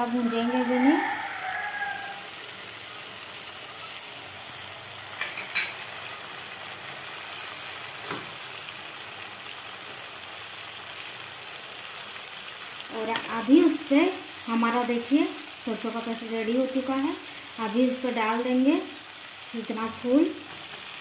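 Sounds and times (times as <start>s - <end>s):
paste sizzling in oil: 0.0s - 21.0s.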